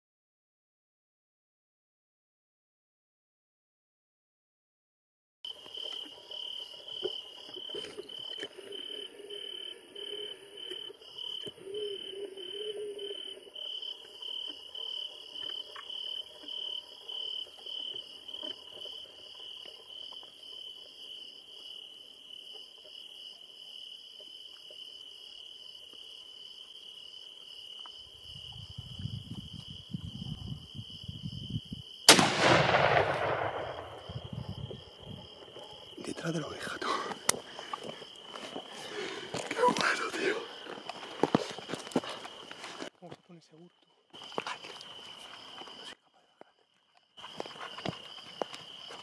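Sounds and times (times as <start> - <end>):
crickets chirping: 5.4 - 49.0.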